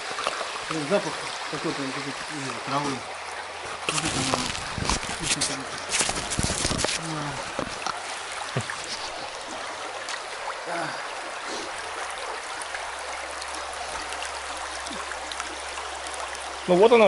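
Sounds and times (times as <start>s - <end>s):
river current rippling and gurgling: 0.0s - 17.0s.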